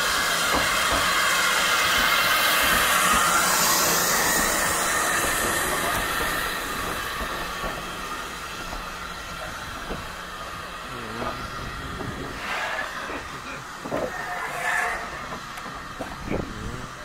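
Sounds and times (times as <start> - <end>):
steam hiss: 0.0 - 17.0.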